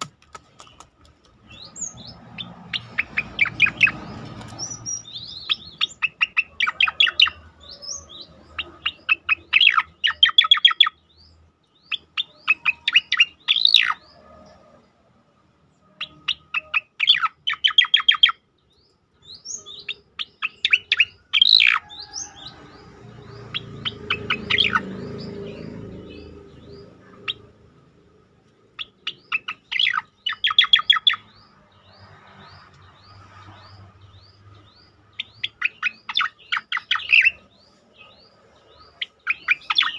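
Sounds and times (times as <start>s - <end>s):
bird singing rapid notes: 0.0s - 14.6s, 15.8s - 39.9s.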